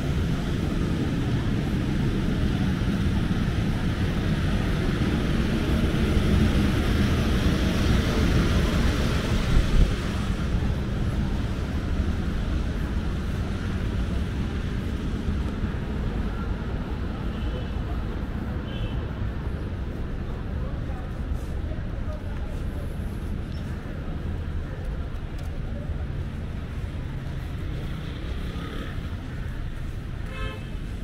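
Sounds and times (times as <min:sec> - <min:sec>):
low street rumble: 0:00.0 - 0:31.0.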